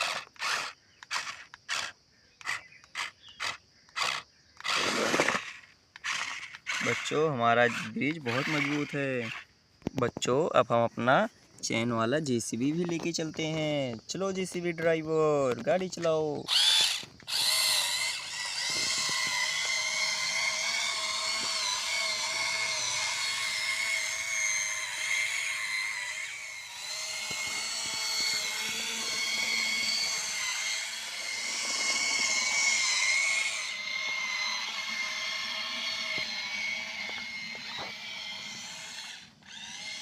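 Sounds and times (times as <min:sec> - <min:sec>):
toy electric motors whining: 0:00.0 - 0:09.5, 0:15.5 - 0:40.0.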